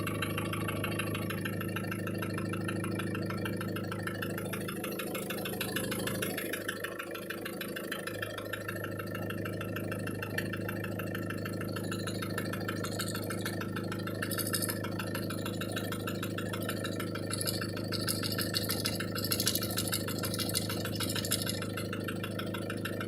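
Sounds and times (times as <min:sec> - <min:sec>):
car engine idling: 0:00.0 - 0:23.0
fast even engine knock: 0:00.0 - 0:23.0.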